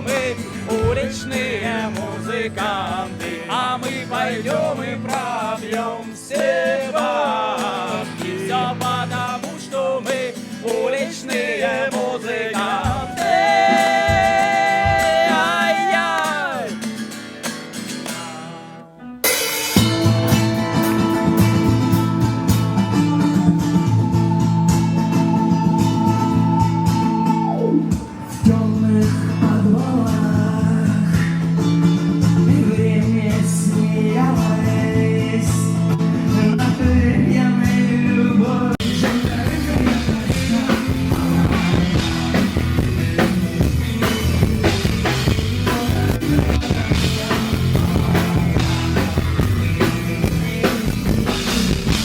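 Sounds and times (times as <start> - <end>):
live rock band music: 0.0 - 52.0.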